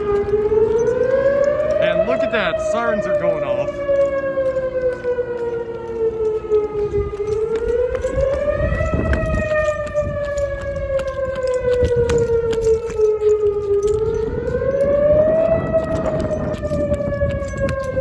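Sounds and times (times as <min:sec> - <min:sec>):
warning siren wailing: 0:00.0 - 0:18.0.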